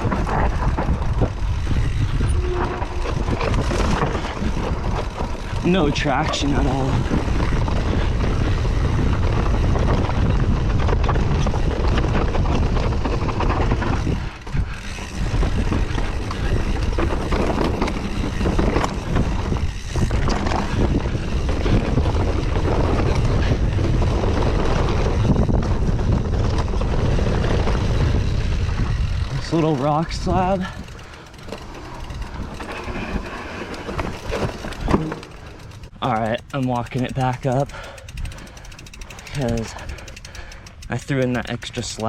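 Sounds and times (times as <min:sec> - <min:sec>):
bike rattling and knocking: 0:00.0 - 0:42.0
bike tyres scrabbling: 0:00.0 - 0:42.0
wind rumbling on microphone: 0:00.0 - 0:42.0.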